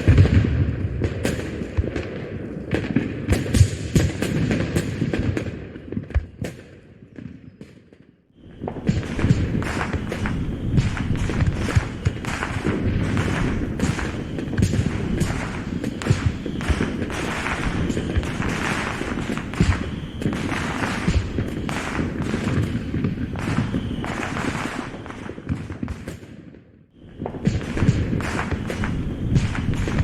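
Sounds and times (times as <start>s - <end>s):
fireworks booming and crackling: 0.0s - 30.0s.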